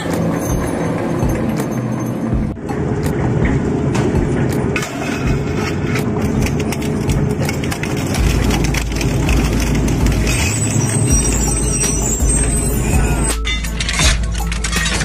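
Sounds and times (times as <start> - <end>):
crushing machine engine drone: 0.0 - 15.0.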